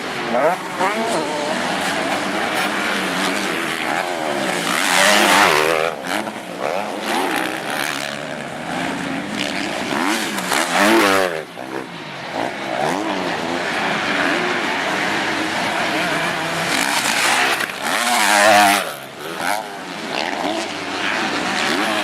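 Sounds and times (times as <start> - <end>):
motocross bikes revving past: 0.0 - 22.0.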